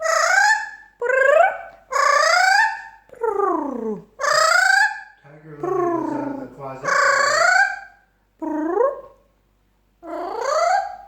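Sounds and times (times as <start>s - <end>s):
parrot calling: 0.0s - 9.3s, 10.0s - 11.0s.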